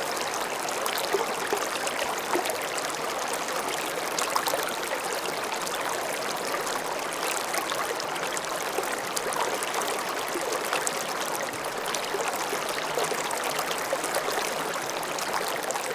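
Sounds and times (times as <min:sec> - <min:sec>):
stream of water flowing: 0:00.0 - 0:15.9.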